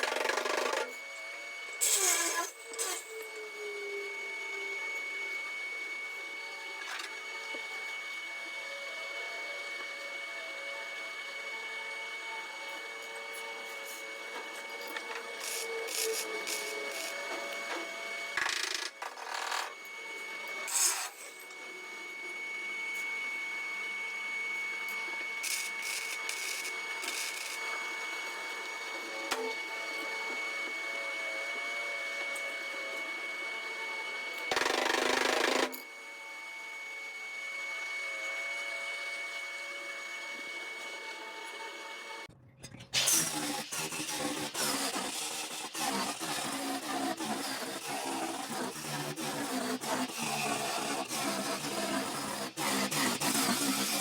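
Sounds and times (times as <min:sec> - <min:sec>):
power tool whining: 0:00.0 - 0:42.3, 0:43.0 - 0:54.0.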